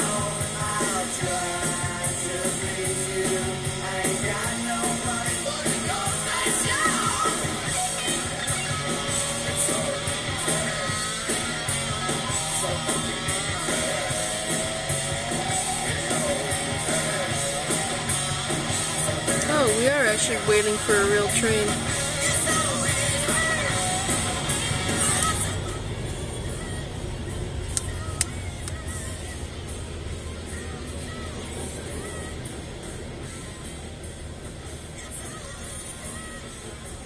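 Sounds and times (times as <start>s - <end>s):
rock music with singing: 0.0s - 37.0s.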